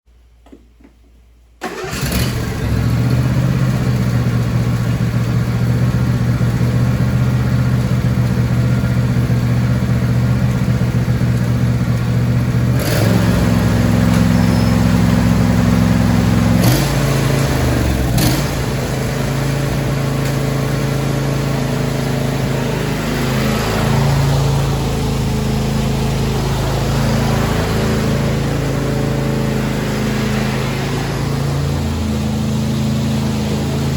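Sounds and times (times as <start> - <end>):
lawn tractor engine running: 1.6 - 33.9.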